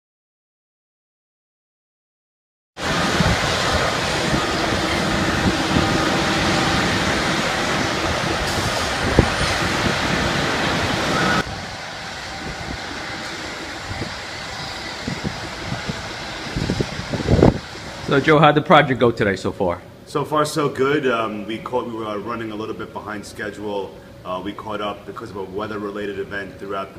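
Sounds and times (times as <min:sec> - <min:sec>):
heavy machinery engine noise: 0:02.8 - 0:26.9.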